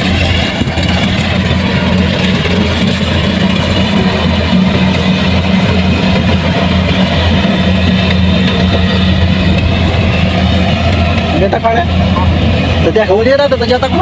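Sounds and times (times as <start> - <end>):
combine harvester diesel engine: 0.0 - 14.0.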